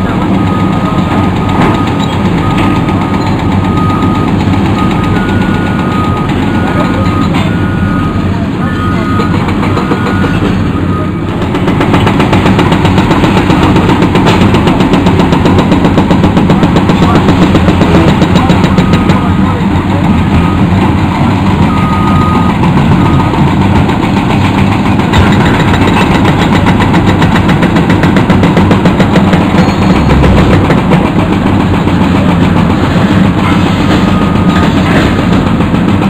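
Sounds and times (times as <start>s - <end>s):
excavator diesel engines: 0.0s - 36.0s
hydraulic breakers hammering concrete: 0.0s - 36.0s.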